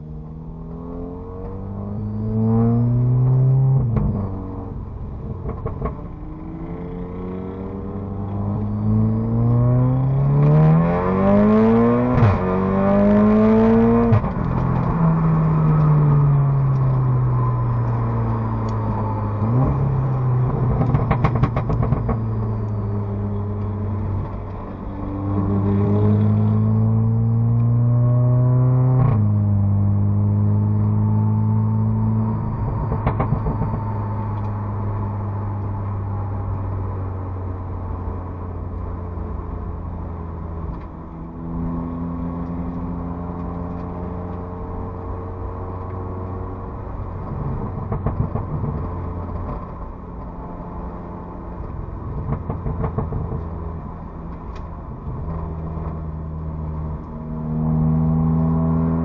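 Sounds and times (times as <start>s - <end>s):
car engine revving in cabin: 0.0s - 59.0s.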